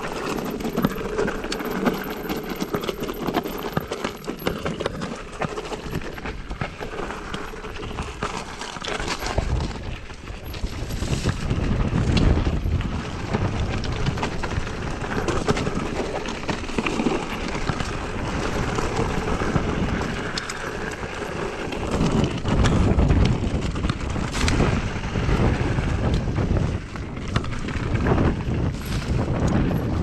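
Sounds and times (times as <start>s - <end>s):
tyre noise on rough ground: 0.0s - 30.0s
wind buffeting microphone: 5.5s - 30.0s.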